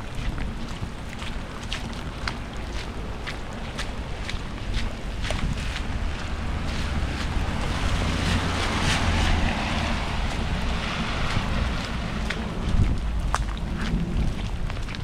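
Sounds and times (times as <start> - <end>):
steady low rumble: 0.0 - 15.0
wind buffeting microphone: 0.0 - 15.0.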